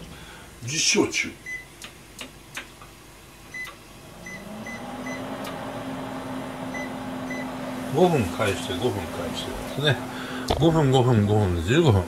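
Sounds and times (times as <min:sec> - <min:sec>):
motor fan humming: 0:00.0 - 0:12.0.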